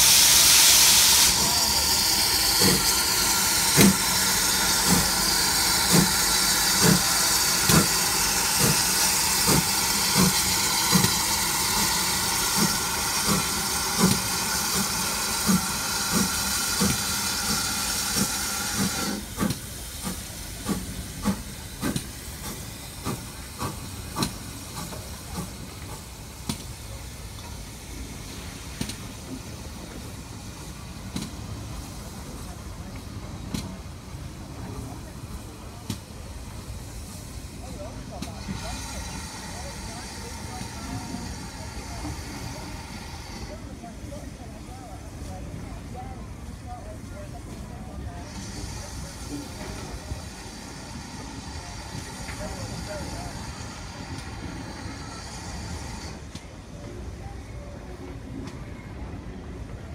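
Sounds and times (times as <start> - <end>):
hiss of escaping steam: 0.0 - 44.4, 48.1 - 56.4
steam locomotive chuffing: 0.0 - 59.9.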